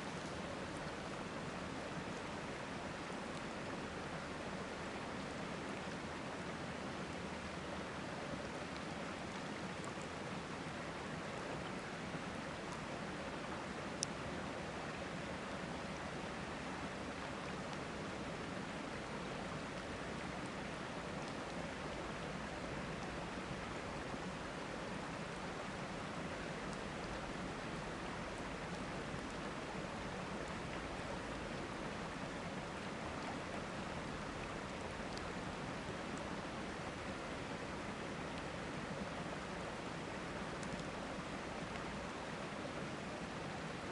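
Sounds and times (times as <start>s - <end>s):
river running: 0.0s - 43.9s.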